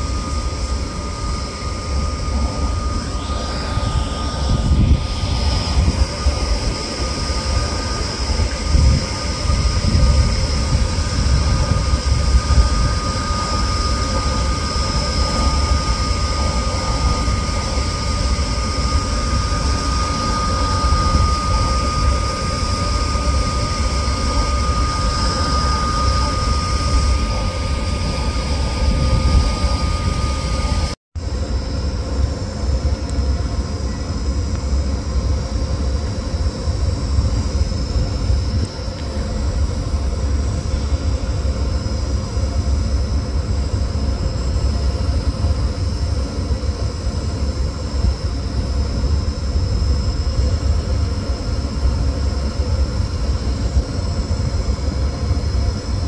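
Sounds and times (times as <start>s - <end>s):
high-pitched whine: 0.0s - 56.0s
train low rumble: 0.0s - 56.0s.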